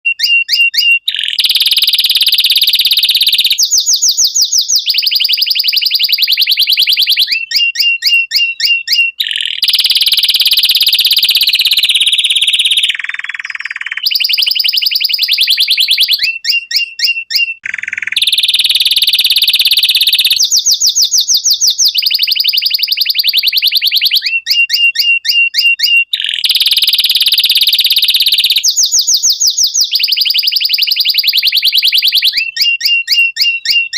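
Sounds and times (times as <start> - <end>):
canary singing fast trills: 0.0 - 33.9.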